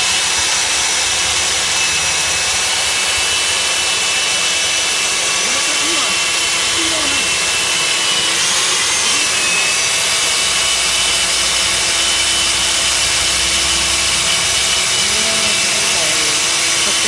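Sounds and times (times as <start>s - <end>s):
core drill grinding into concrete: 0.0s - 17.0s.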